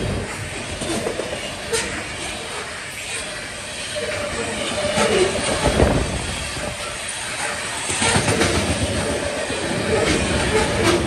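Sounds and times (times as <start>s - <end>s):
freight train wheels clattering on rails: 0.0s - 11.0s.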